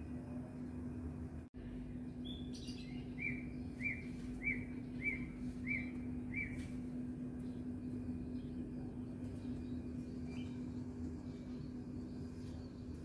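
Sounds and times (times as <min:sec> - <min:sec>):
steady low hum: 0:00.0 - 0:13.0
small bird chirping: 0:02.1 - 0:13.0.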